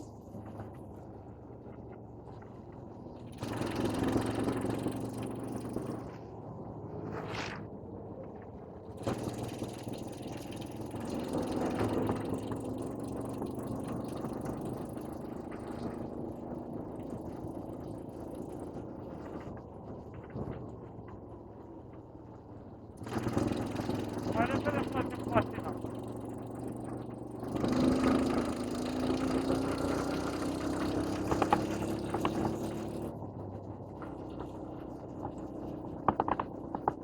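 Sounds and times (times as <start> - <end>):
vehicle engine running: 0.0 - 7.4, 8.8 - 37.0.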